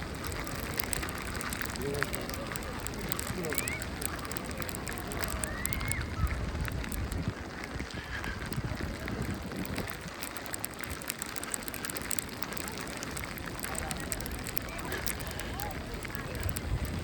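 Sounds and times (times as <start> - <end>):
faint distant voices: 0.0 - 17.0
small crackling ticks: 0.0 - 17.0
wind rumbling on microphone: 0.0 - 17.0.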